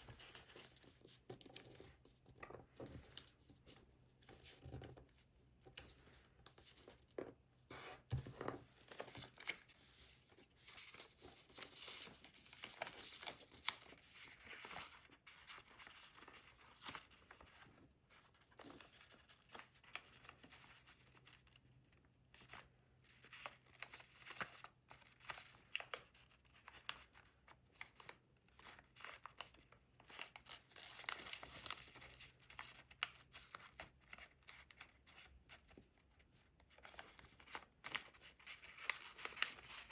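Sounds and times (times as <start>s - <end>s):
paper folding and crinkling: 0.0s - 39.9s.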